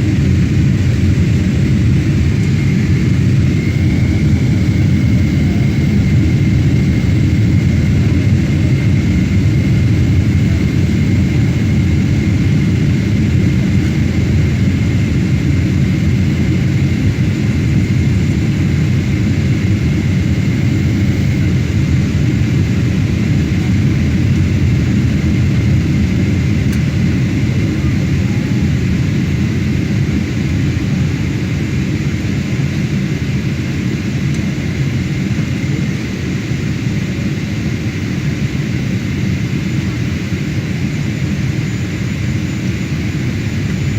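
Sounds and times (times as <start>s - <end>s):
faint high whine: 0.0s - 43.9s
jet airliner rumble: 0.0s - 43.9s.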